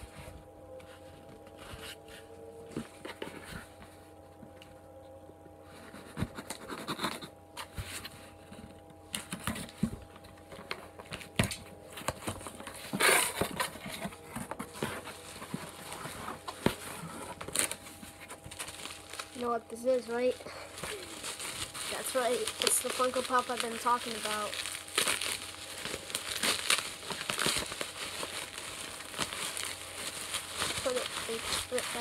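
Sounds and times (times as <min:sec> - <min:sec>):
cardboard rustling: 0:00.0 - 0:04.5, 0:05.6 - 0:32.0
faint steady hum: 0:00.0 - 0:32.0.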